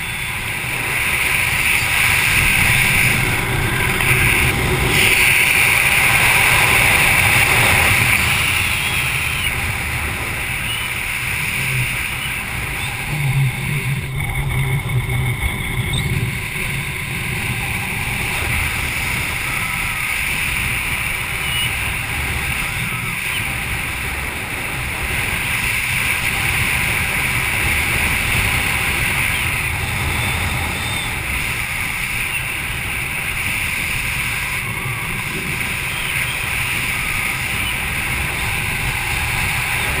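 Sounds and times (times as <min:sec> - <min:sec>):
low wind buffeting: 0:00.0 - 0:40.0
wind rushing over microphone: 0:00.0 - 0:40.0.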